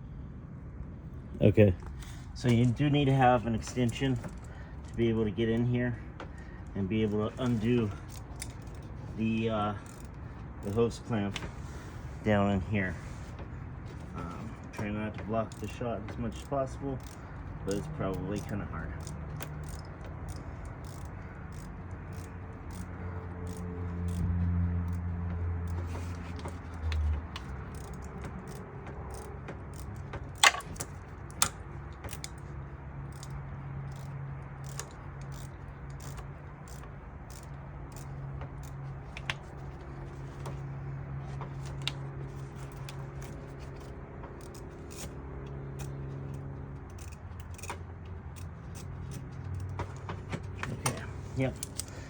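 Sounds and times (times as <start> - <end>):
steady low hum: 0.0 - 52.0
socket wrench clicking: 1.8 - 6.4, 7.3 - 11.5, 14.8 - 40.6, 41.6 - 52.0.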